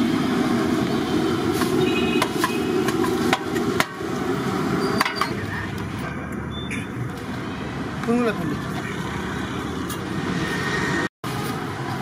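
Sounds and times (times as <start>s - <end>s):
street-food stall ambience: 0.0s - 12.0s
traffic noise: 0.0s - 12.0s.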